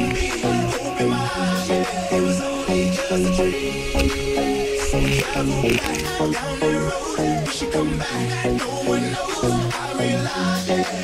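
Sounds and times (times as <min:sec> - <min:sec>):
electronic pop music: 0:00.0 - 0:11.0.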